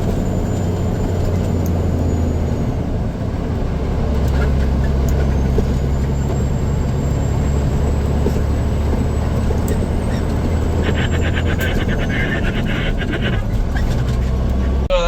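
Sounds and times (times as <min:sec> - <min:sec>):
large vehicle engine rumbling: 0:00.0 - 0:15.0.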